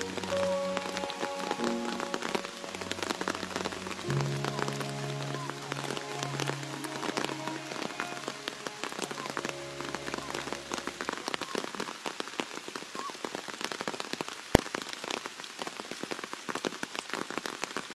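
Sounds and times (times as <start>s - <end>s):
heavy rain on leaves and rocks: 0.0s - 17.9s.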